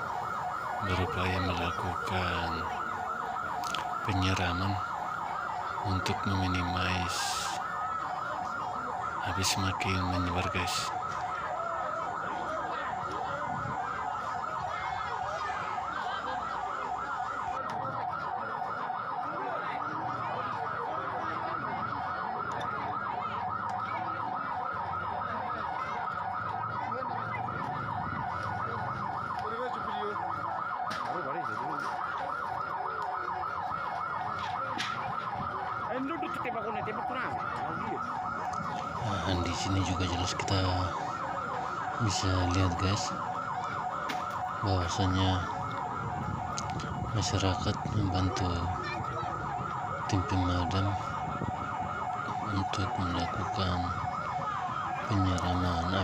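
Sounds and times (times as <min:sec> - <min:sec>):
electronic siren yelping: 0:00.0 - 0:56.0
faint crowd voices: 0:00.0 - 0:56.0.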